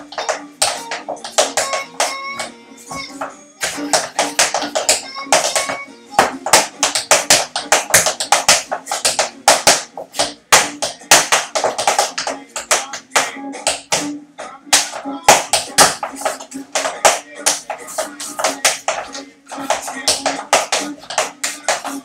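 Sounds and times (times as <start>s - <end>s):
tap shoes on tap board: 0.0s - 14.1s, 14.7s - 22.0s.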